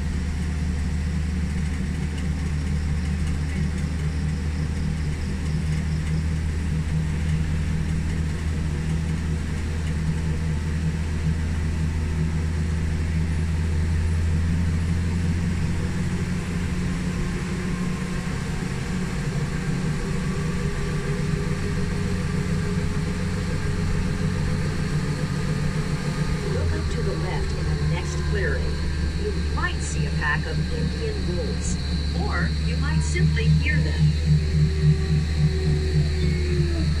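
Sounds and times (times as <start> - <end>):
tram engine humming: 0.0 - 37.0.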